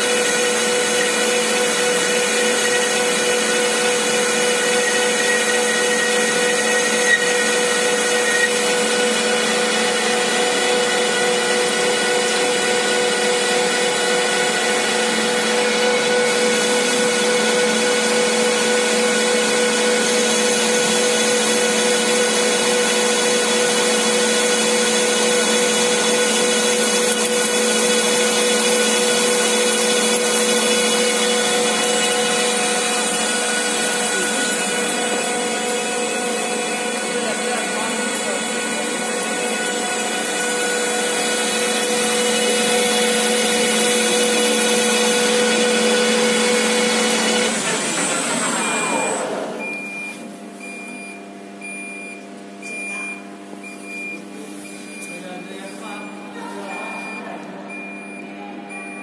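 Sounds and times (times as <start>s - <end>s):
high machine tone: 0.0s - 17.8s, 20.0s - 59.0s
lathe machine whir: 0.0s - 49.8s.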